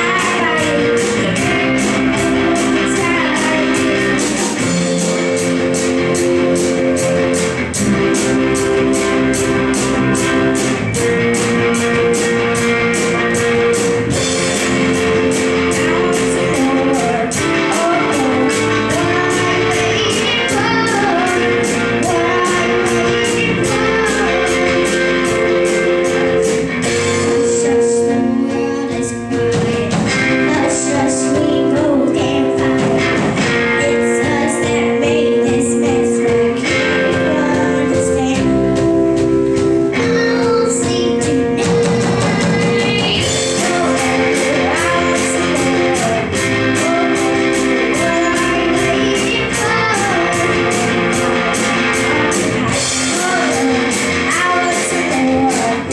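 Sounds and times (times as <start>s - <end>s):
girl singing: 0.0s - 5.5s, 14.1s - 55.9s
rock band playing: 0.0s - 55.9s.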